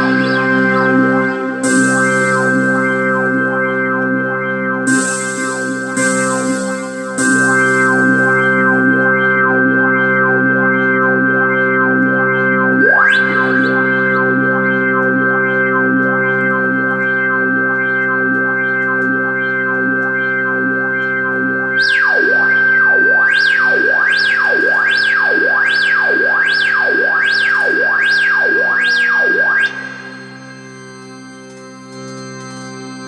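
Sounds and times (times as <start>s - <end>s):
pulsing synthesizer chord: 0.0s - 33.0s
synthesizer sweep effect: 0.0s - 33.0s.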